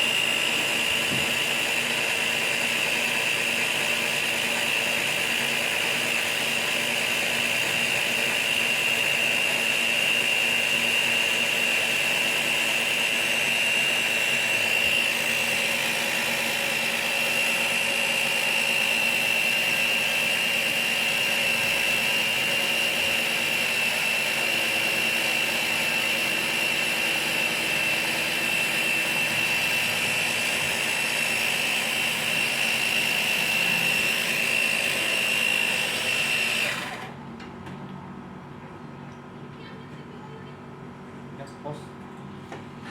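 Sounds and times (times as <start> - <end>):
machine whining: 0.0 - 37.2.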